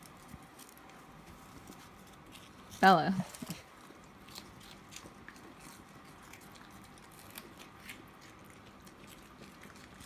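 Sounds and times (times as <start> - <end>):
chewing crunchy snacks: 1.6 - 10.0.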